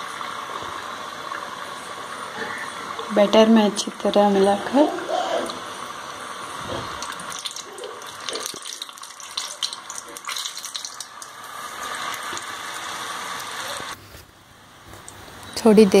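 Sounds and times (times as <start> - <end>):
oil sizzling and crackling: 0.0 - 15.7.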